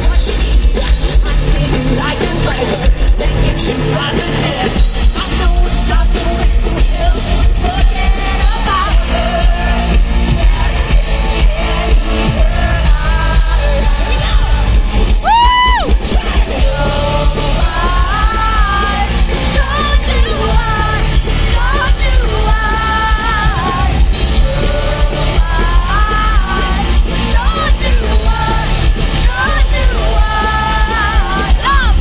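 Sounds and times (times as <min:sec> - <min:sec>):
drums: 0:00.0 - 0:32.0
electric guitar: 0:00.0 - 0:32.0
heavy bass: 0:00.0 - 0:32.0
woman singing: 0:00.0 - 0:32.0.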